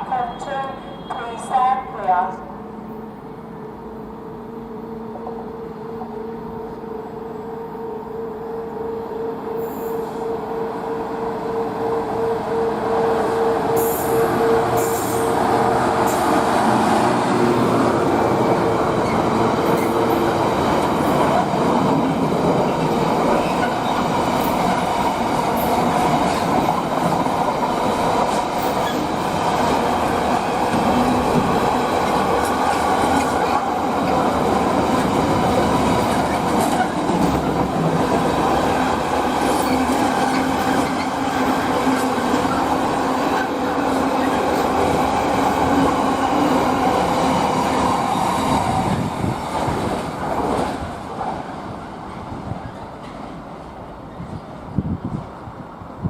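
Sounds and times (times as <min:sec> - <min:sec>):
freight train rumbling over rails: 0:00.0 - 0:56.0.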